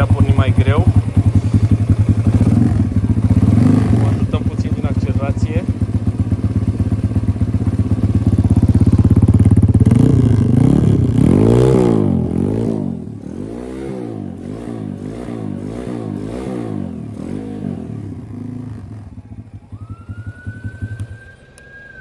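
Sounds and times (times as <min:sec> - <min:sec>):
motorbike engine revving: 0:00.0 - 0:21.9.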